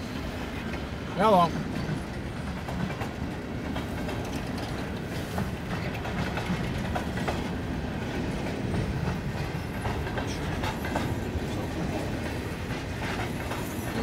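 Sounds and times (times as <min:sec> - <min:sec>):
train wheels rumbling on rail: 0:00.0 - 0:14.0
wheels clicking over rail joints: 0:00.6 - 0:14.0.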